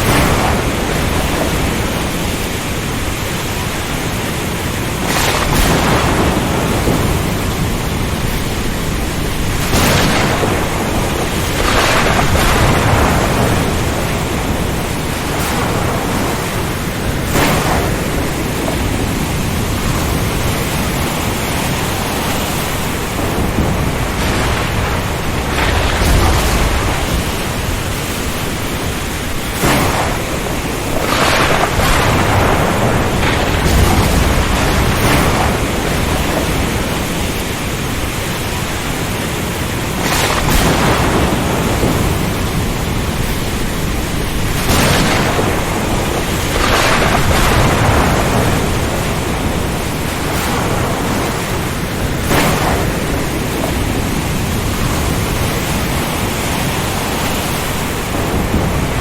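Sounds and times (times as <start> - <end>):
rain: 0.0 - 59.0
surf crashing: 0.0 - 59.0
wind roaring: 0.0 - 59.0.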